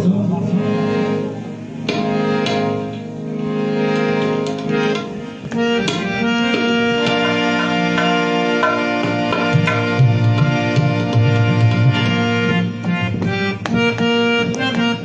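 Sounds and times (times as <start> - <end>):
reedy keyboard melody: 0.0 - 15.0.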